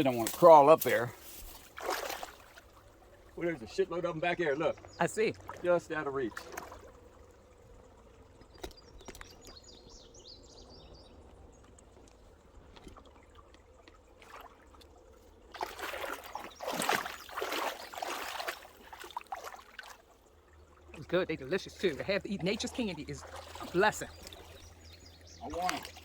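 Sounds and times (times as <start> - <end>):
splashes of wading: 0.0 - 9.9, 11.1 - 26.0
creek water trickling: 0.0 - 26.0.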